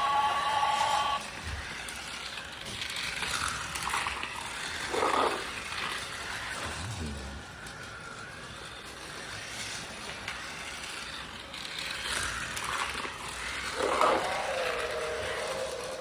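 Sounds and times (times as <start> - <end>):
toy race track rattling: 0.0 - 16.0.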